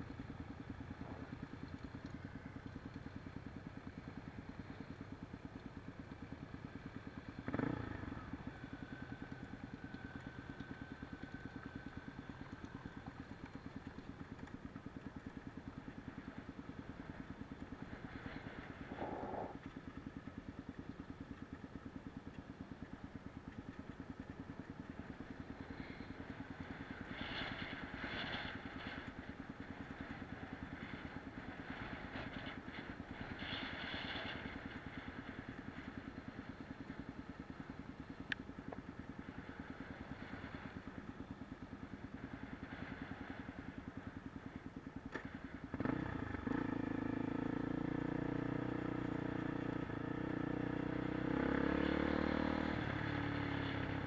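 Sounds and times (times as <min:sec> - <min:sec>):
motorcycle engine running: 0:00.0 - 0:54.0
rattling and road noise: 0:00.0 - 0:54.0.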